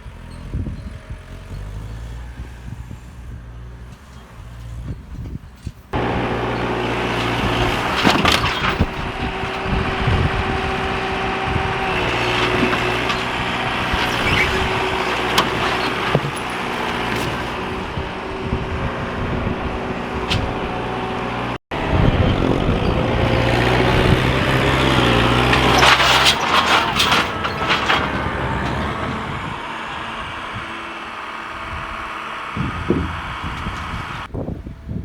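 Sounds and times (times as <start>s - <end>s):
tractor engine running under load: 0.0s - 35.0s.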